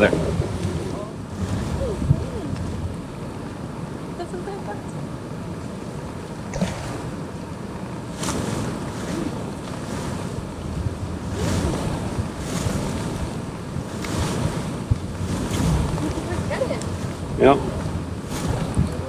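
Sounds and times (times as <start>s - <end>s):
waves washing: 0.0s - 19.0s
wind buffeting microphone: 0.0s - 19.0s.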